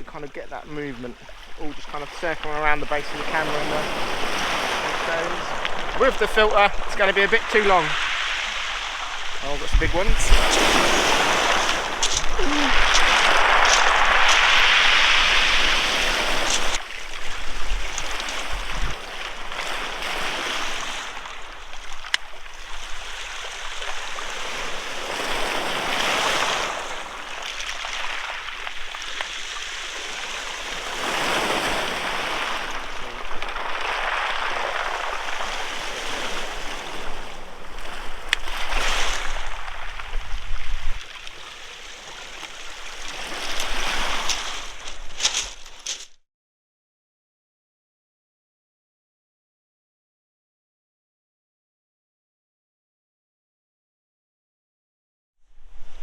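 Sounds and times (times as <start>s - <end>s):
sea waves breaking around steps: 0.0s - 46.2s.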